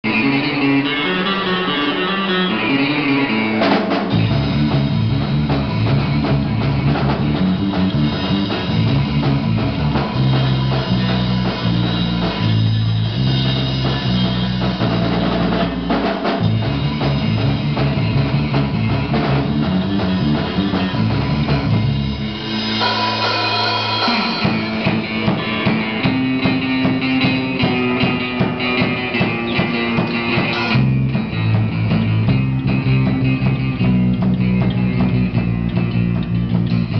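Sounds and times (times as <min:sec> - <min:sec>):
drum kit: 0:00.0 - 0:36.9
electric guitars: 0:00.0 - 0:36.9
live rock band: 0:00.0 - 0:36.9.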